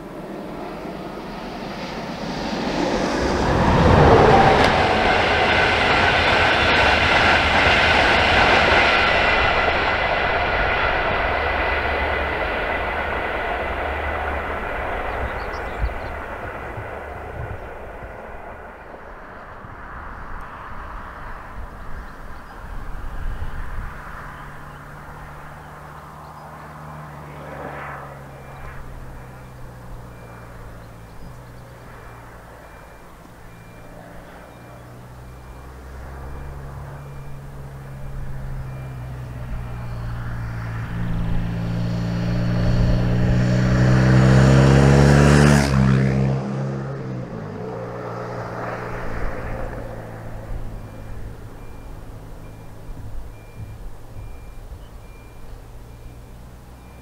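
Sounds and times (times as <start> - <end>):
diesel locomotive engine: 0.0 - 57.0.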